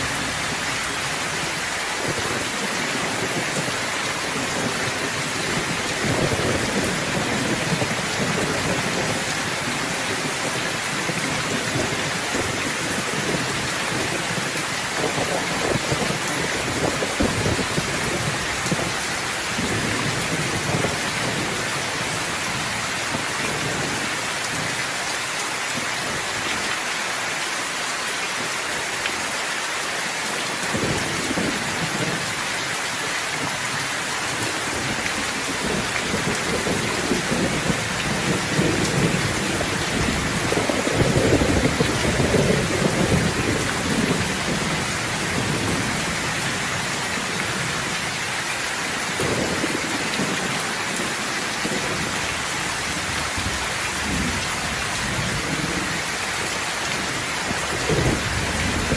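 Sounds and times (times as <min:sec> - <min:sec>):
thunder rumbling: 0:00.0 - 0:24.8, 0:33.4 - 0:48.0, 0:49.2 - 0:56.2, 0:57.0 - 0:58.9
steady rain hissing: 0:00.0 - 0:58.9.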